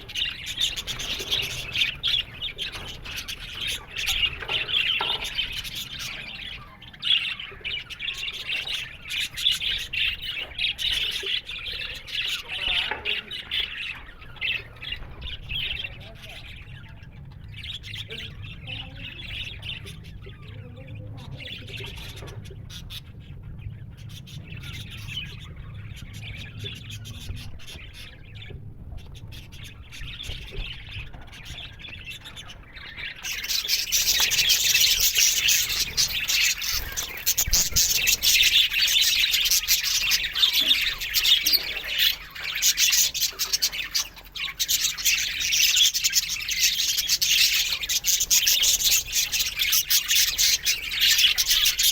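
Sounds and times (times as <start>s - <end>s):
budgerigars chirping and warbling: 0.0s - 51.9s.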